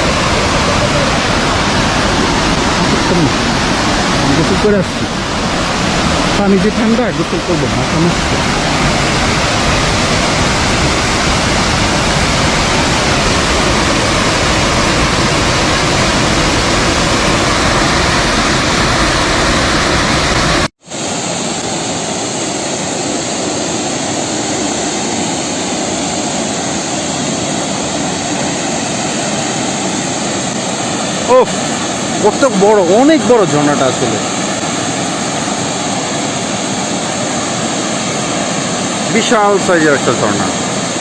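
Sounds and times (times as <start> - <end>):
waterfall roaring: 0.0 - 41.0.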